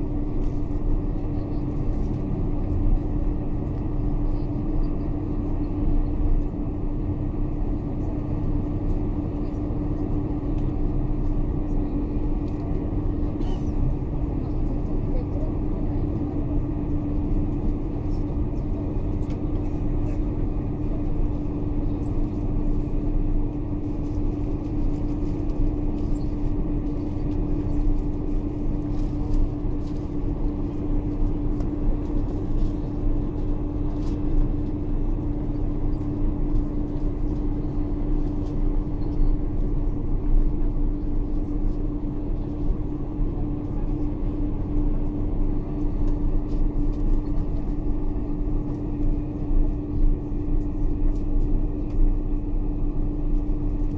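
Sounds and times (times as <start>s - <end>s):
aircraft cabin engine rumble: 0.0s - 53.9s
constant hum: 0.0s - 53.9s.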